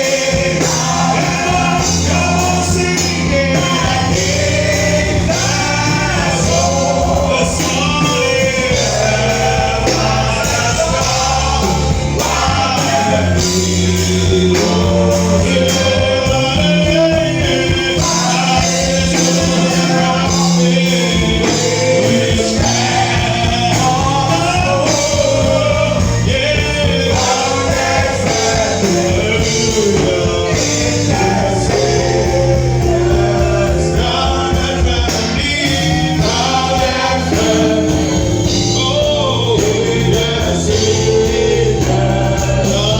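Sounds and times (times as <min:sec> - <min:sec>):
band accompaniment: 0:00.0 - 0:42.9
gospel singing: 0:00.0 - 0:42.9
sustained bass line: 0:00.0 - 0:42.9.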